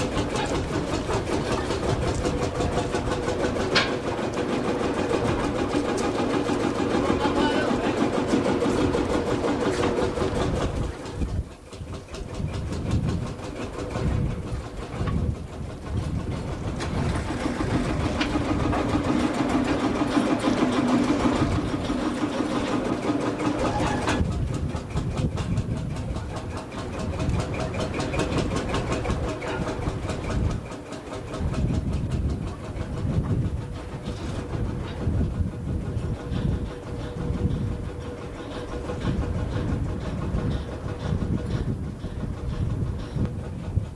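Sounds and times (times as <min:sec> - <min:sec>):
steam engine rhythmic exhaust beat: 0:00.0 - 0:43.9.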